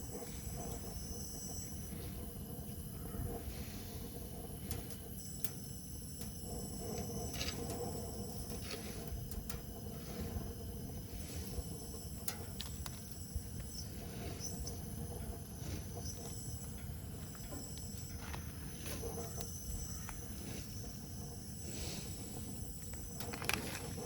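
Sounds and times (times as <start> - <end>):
gas grill hissing: 0.0 - 24.0.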